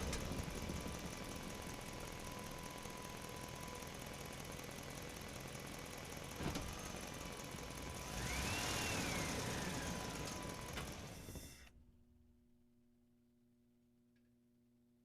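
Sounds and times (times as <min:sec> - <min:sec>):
engine-like rumble: 0:00.0 - 0:12.1.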